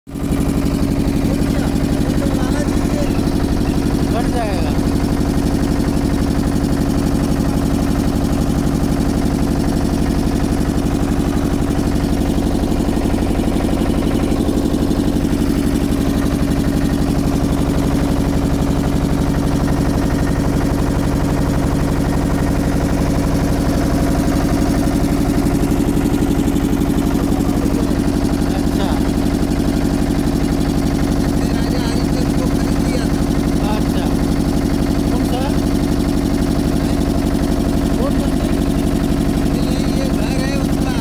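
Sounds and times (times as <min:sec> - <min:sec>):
motorboat engine running: 0:00.1 - 0:41.0.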